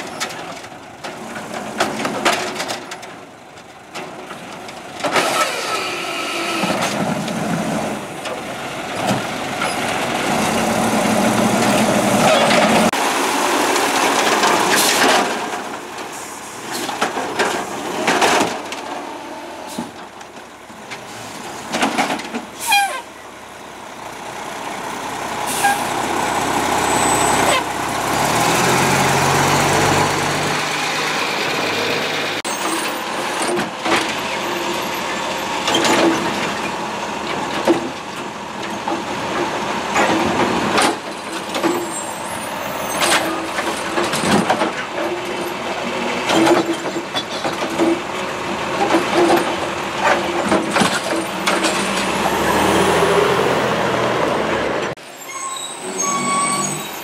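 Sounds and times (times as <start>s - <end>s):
carts banging and knocking: 0.0s - 23.0s, 25.6s - 55.0s
garbage truck diesel engine: 0.0s - 57.0s.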